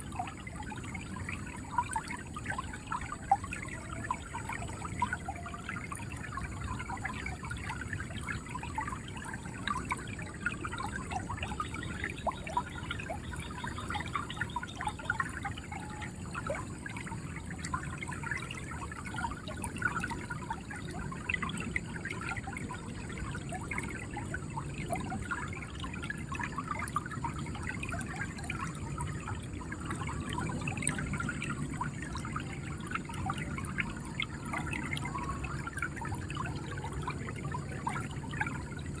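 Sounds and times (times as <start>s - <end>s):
river water flowing and gurgling: 0.0s - 39.0s.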